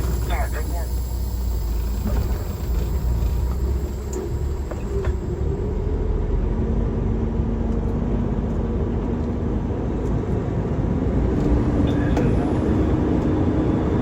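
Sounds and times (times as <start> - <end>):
heavy vehicle engine rumble: 0.0 - 14.0.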